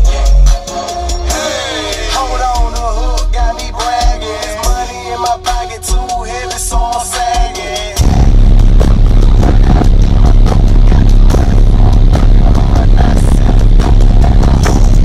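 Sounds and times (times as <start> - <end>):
loud bass-heavy music from subwoofers: 0.0 - 15.0.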